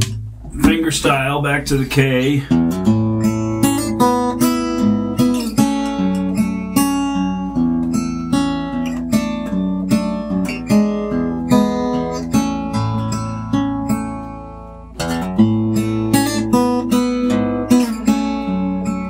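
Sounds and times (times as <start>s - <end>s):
acoustic guitar picked notes and chords: 0.0s - 19.0s.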